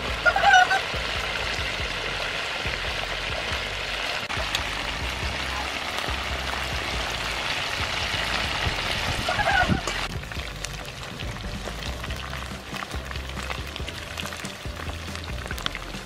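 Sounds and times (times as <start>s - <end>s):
chicken wings deep-frying sizzle: 0.0s - 16.0s.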